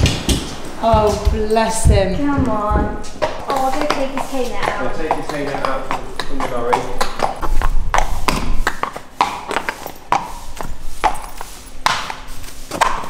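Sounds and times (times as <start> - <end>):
pony hooves clip-clopping: 0.0 - 13.0.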